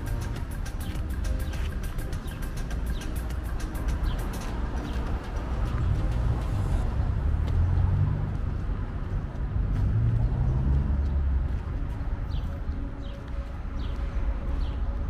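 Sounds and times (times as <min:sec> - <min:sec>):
cars going by: 0:00.0 - 0:15.0.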